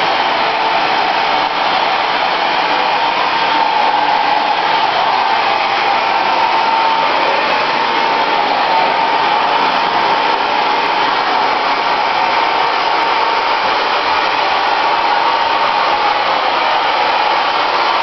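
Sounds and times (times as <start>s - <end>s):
hair dryer running: 0.0s - 18.0s.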